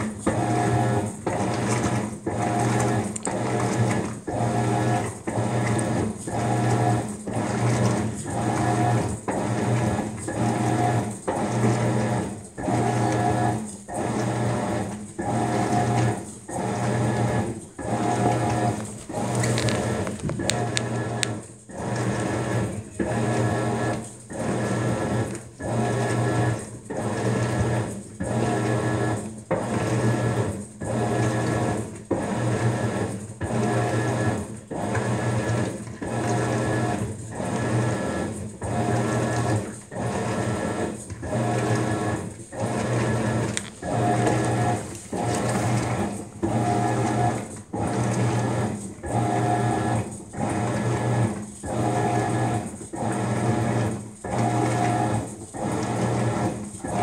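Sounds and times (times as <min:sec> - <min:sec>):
washing machine motor humming: 0:00.0 - 0:57.0.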